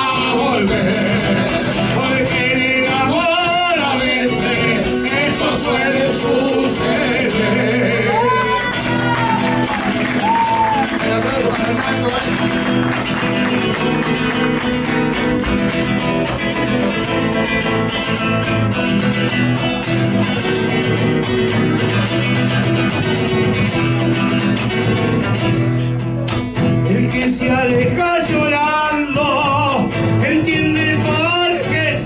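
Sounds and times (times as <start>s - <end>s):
acoustic guitars playing folk music: 0.0s - 32.0s.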